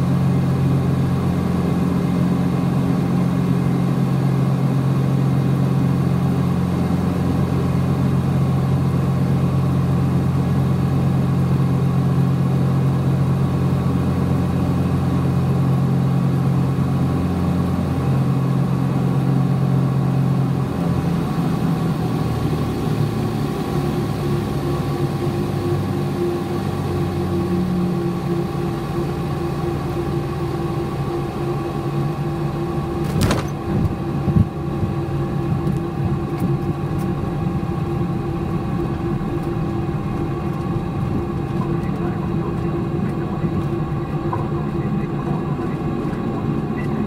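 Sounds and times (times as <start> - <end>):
twin piston aircraft engines: 0.0 - 47.0.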